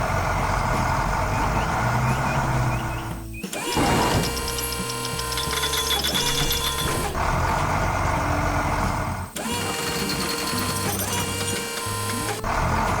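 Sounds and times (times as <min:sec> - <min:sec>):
construction vehicle engine effects: 0:00.0 - 0:13.0
cartoon background music: 0:00.3 - 0:13.0.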